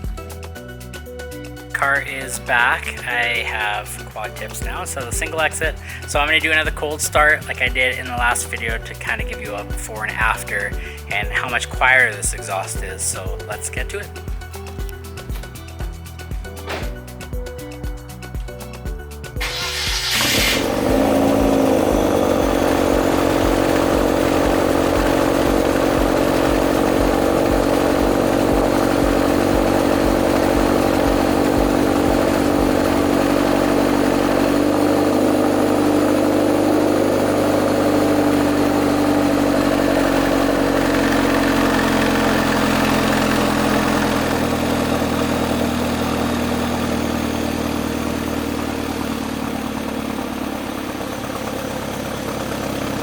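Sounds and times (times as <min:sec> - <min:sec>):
car engine idling high: 0:00.0 - 0:53.0.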